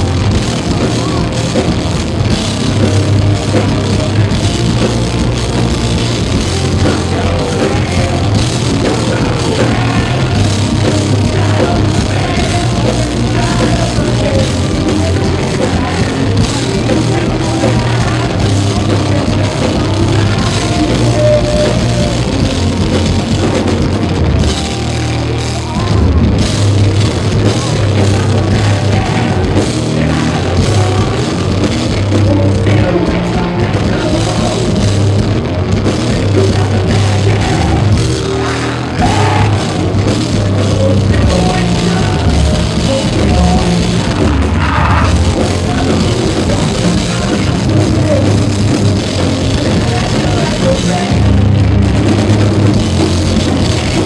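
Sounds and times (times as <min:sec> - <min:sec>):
heavy drum kit: 0:00.0 - 0:54.0
live metal band playing: 0:00.0 - 0:54.0.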